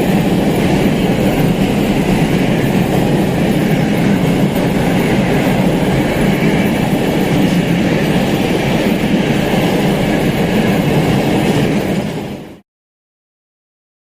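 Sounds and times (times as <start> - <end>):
train wheels rumbling: 0.0 - 12.6.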